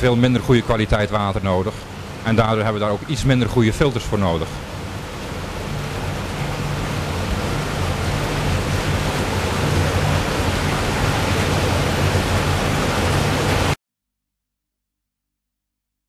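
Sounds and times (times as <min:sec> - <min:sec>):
low filter hum: 0:00.0 - 0:13.8
water rushing: 0:00.0 - 0:13.8.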